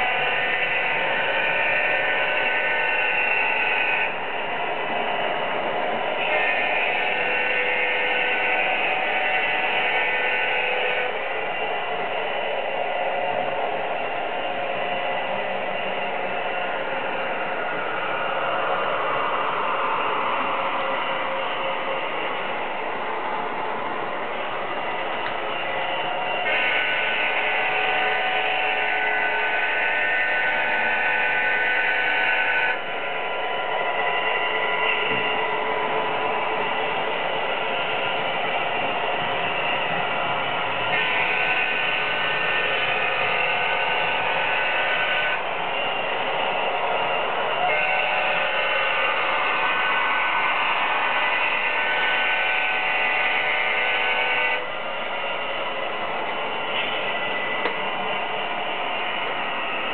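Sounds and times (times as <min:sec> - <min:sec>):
model train running noise: 0:00.0 - 0:59.9.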